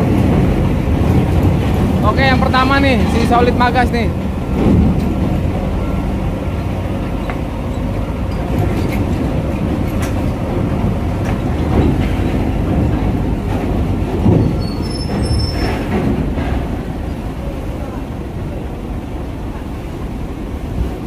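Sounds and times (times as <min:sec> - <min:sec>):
diesel truck rumbling: 0:00.0 - 0:21.0
trailers clanking: 0:00.0 - 0:21.0.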